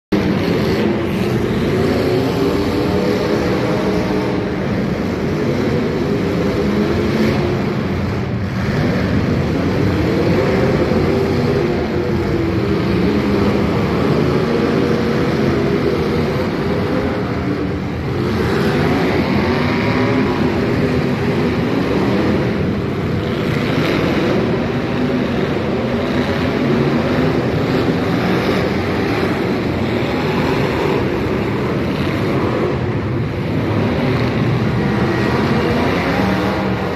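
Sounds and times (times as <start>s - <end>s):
car engines revving loudly: 0.0s - 36.9s.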